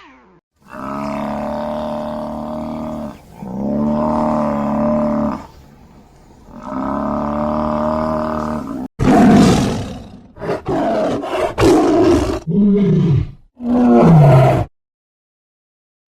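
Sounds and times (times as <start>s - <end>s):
big cat roaring and growling: 0.0s - 5.5s, 6.5s - 14.7s.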